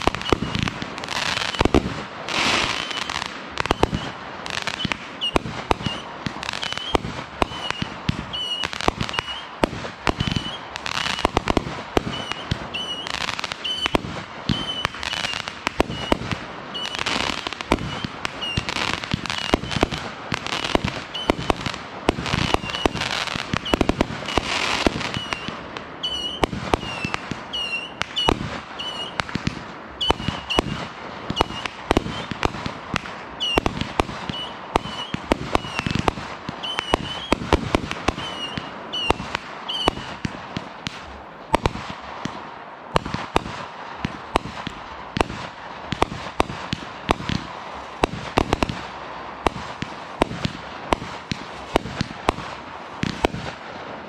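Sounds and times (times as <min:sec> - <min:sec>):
fireworks crackle: 0:00.0 - 0:54.0
fireworks launching and bursting: 0:00.0 - 0:54.0.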